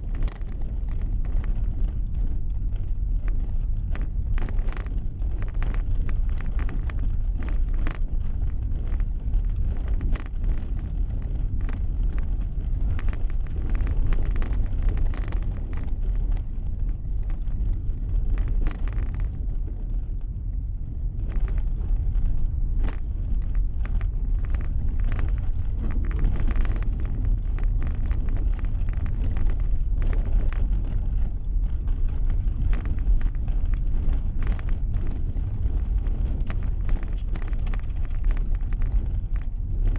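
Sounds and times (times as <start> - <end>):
car driving rumble: 0.0 - 39.9
small ticks and knocks: 0.0 - 39.9.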